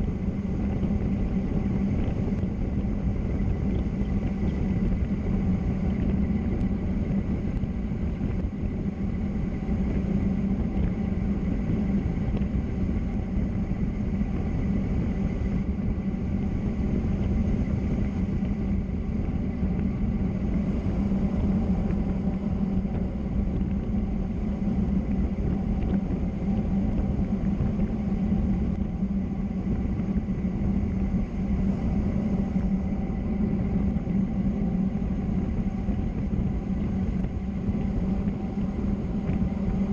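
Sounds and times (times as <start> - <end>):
low hum: 0.0 - 39.9
wind rumble: 0.0 - 39.9.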